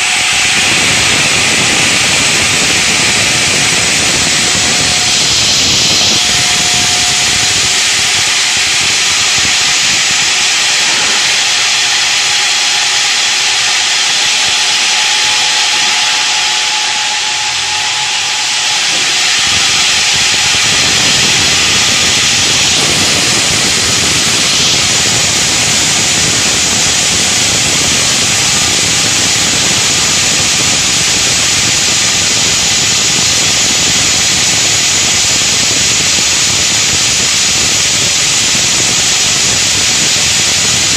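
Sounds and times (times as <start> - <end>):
saw cutting granite with water hiss: 0.0 - 40.9.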